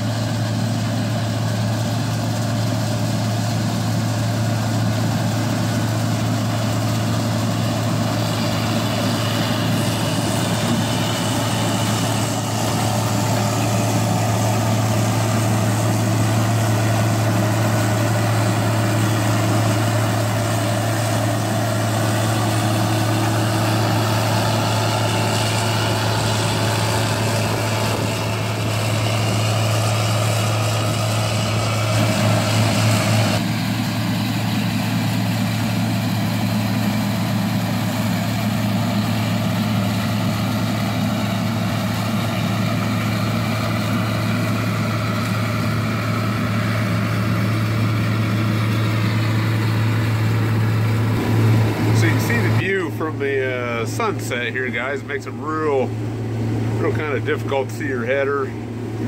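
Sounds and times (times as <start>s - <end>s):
combine harvester engine humming: 0.0s - 59.0s.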